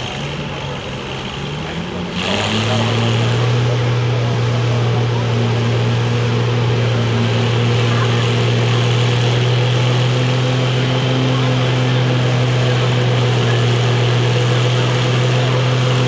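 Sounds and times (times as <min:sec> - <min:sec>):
tractor engine running under load: 0:00.0 - 0:16.0.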